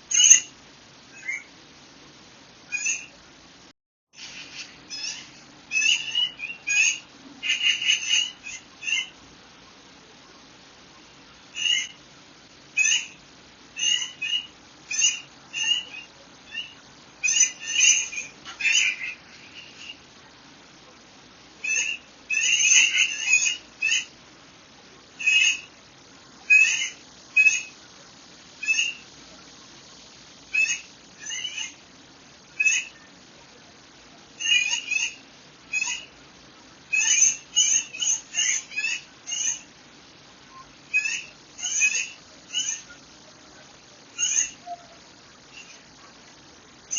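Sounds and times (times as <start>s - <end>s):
birds chirping: 0.0s - 3.4s, 4.2s - 46.9s
faint background hiss: 0.0s - 46.9s.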